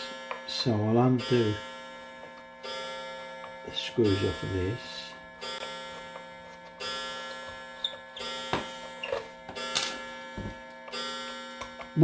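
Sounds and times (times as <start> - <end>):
clocks chiming: 0.0 - 12.0
clocks ticking: 0.0 - 12.0.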